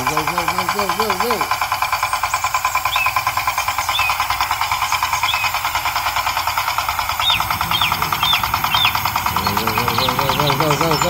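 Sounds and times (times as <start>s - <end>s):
small tractor motor chugging: 0.0s - 11.0s.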